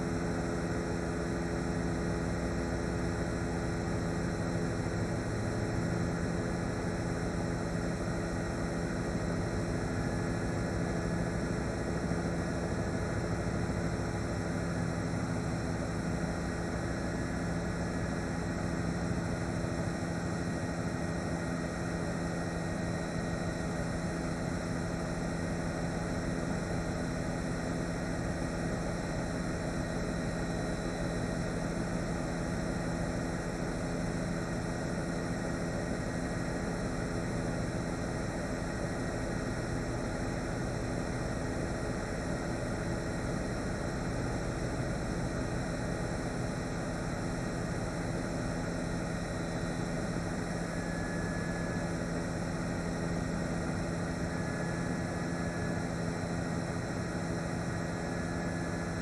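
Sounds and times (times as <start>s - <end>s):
helicopter engine and rotors drone: 0.0s - 59.0s.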